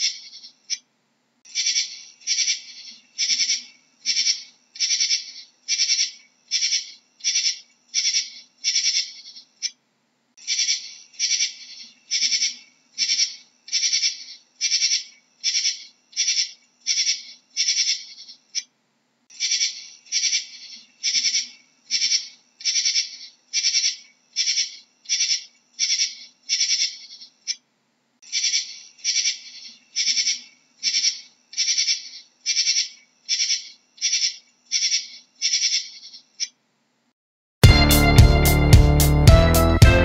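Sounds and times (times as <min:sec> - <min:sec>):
katydid calling: 0:00.0 - 0:00.8, 0:01.5 - 0:09.8, 0:10.4 - 0:18.7, 0:19.3 - 0:27.6, 0:28.2 - 0:36.6.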